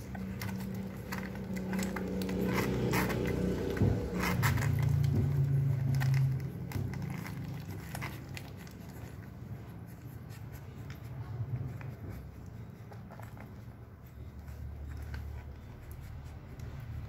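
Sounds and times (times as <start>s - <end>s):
puppies suckling clicks: 0.0s - 17.0s.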